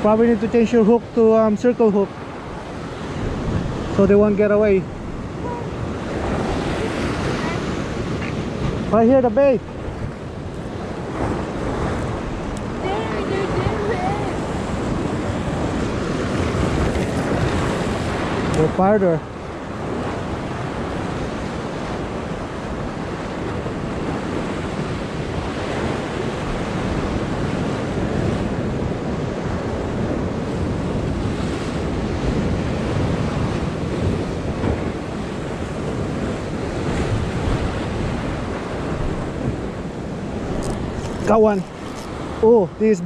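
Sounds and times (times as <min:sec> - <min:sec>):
ocean surf churning: 0:00.0 - 0:43.0
wind on microphone: 0:00.0 - 0:43.0.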